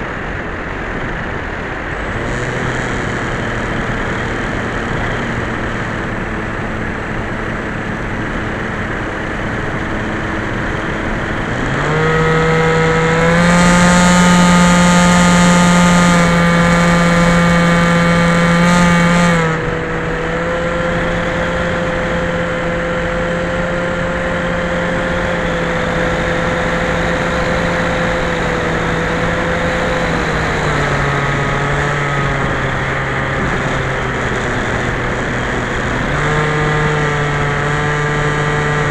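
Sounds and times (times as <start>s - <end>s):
model plane electric motor: 1.9s - 38.9s.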